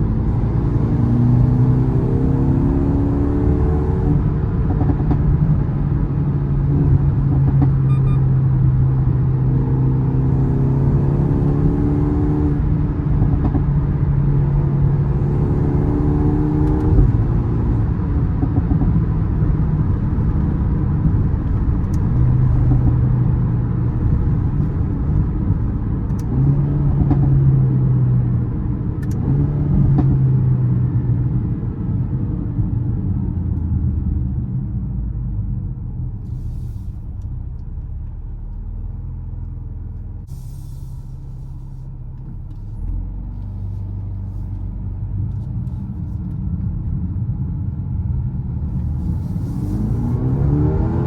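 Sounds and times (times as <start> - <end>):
car engine accelerating: 0.0 - 31.3, 33.1 - 51.0.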